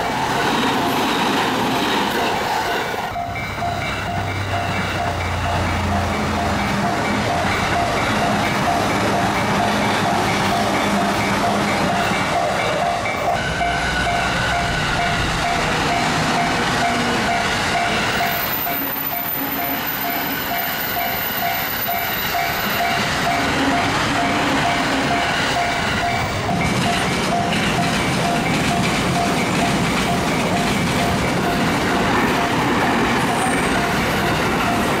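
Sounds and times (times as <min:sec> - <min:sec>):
level crossing alarm ringing: 0:00.0 - 0:35.0
trains running past: 0:00.0 - 0:35.0.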